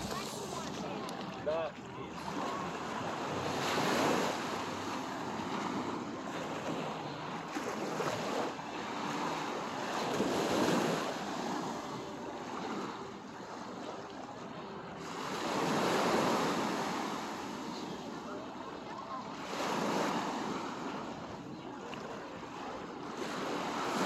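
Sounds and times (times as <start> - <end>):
waves lapping on sand: 0.0 - 24.0.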